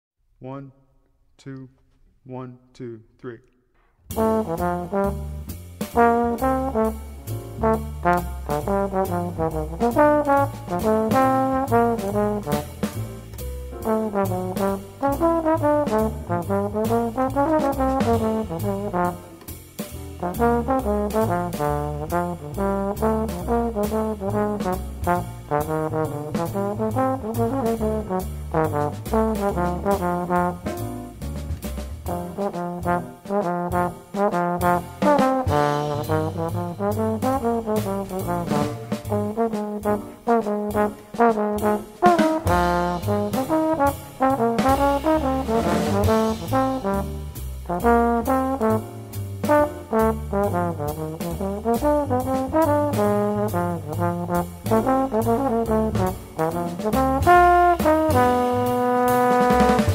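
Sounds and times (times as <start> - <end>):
bass line: 4.1 - 59.9
drums and cymbal: 4.1 - 59.9
trombone playing jazz: 4.1 - 59.9.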